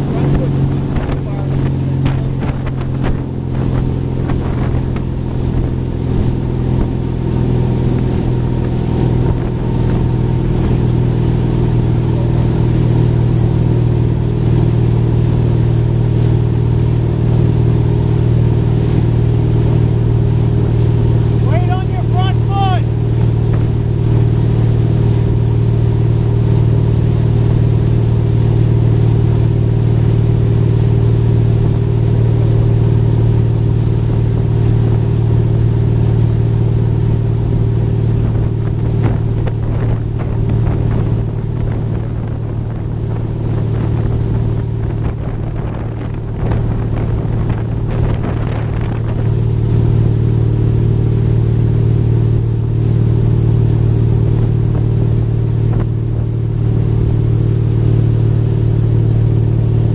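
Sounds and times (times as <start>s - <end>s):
boat engine running: 0.0s - 59.9s
water rushing in wake: 0.0s - 59.9s.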